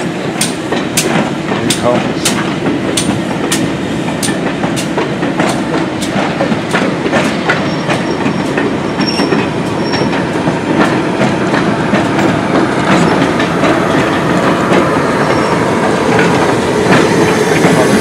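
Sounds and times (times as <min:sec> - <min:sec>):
rail joint clicks: 0:00.0 - 0:18.0
train wheels rumbling on track: 0:00.0 - 0:18.0.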